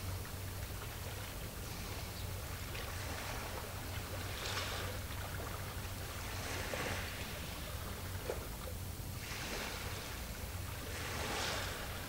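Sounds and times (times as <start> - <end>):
small waves washing: 0.0 - 12.0
steady low hum: 0.0 - 12.0.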